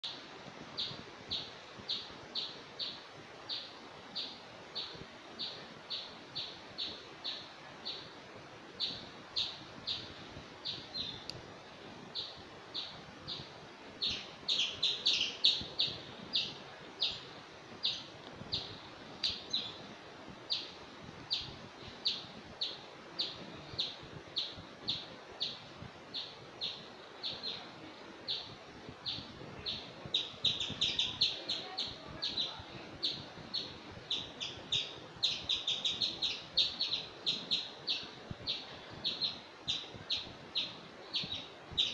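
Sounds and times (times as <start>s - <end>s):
bird chirping: 0.8s - 8.2s, 8.8s - 11.4s, 12.1s - 19.9s, 20.5s - 41.9s.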